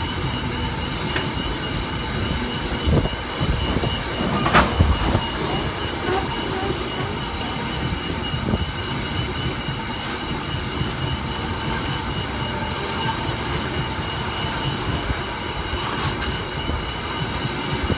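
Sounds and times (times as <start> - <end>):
steel wheels rumbling on rail: 0.0 - 17.9.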